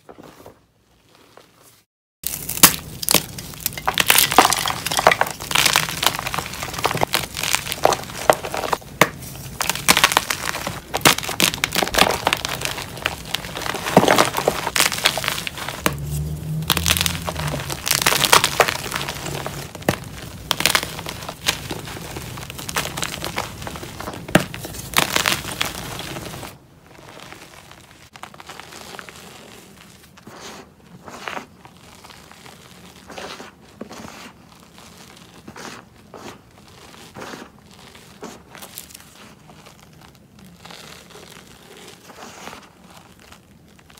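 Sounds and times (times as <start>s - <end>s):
chalk powder crumbling: 1.0s - 43.9s
hands crunching chalk blocks: 2.2s - 43.9s.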